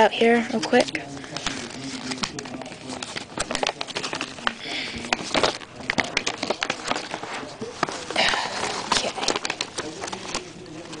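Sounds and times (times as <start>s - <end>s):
playmat crinkling and rustling: 0.0s - 11.0s.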